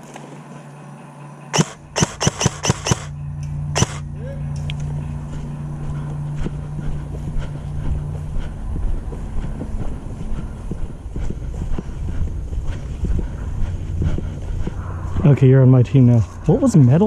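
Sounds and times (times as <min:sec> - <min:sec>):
steady low hum: 0:00.0 - 0:17.0
low rumble of wind: 0:03.1 - 0:17.0.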